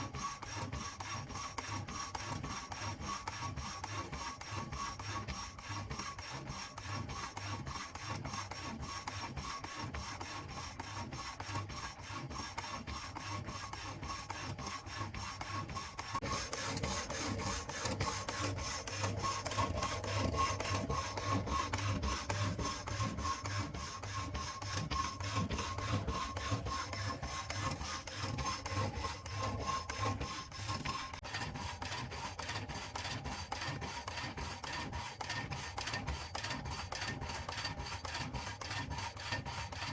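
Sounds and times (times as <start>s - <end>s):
hacksaw blade rasping: 0.5s - 39.9s.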